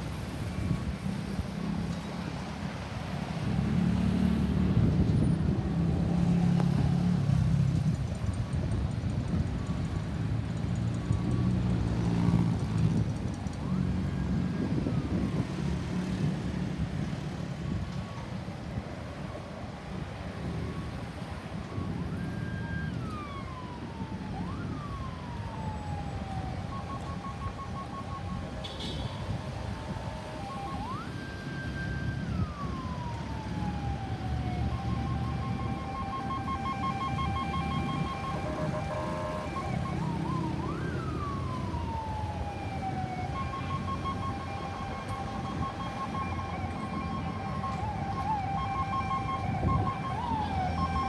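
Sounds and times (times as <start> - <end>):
low rumble of traffic: 0.0 - 51.0
ambulance siren: 0.1 - 51.0.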